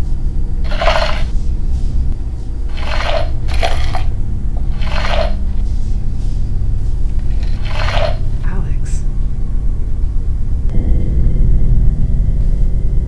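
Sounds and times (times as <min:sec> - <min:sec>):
low steady drone: 0:00.0 - 0:13.0.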